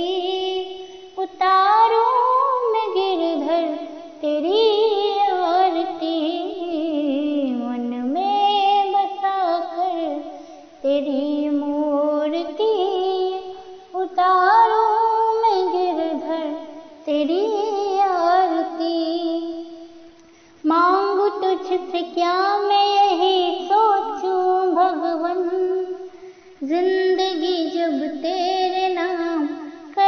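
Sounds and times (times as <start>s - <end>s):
high voice singing devotional song: 0.0s - 30.0s.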